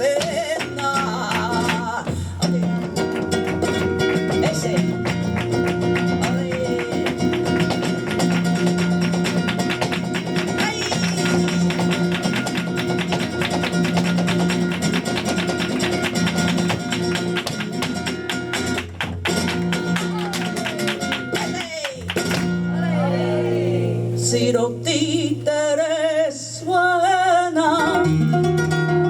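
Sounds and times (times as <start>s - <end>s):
flamenco guitar with percussive strikes: 0.0s - 29.0s.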